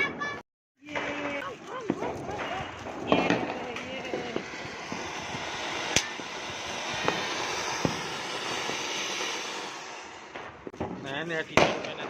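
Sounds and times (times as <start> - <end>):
firework pops: 0.8 - 12.0
sparks crackling: 0.8 - 12.0
firework hissing: 1.0 - 11.5.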